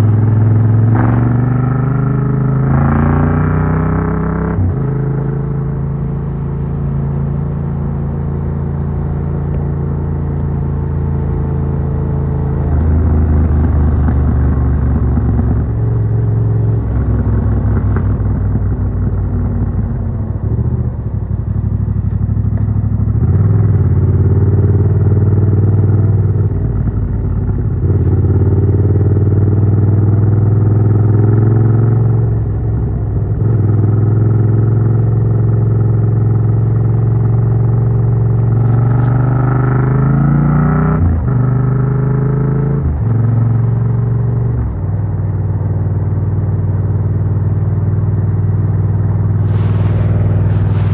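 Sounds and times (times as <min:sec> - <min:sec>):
motorcycle engine accelerating: 0:00.0 - 0:32.4, 0:33.2 - 0:44.1, 0:47.5 - 0:50.9.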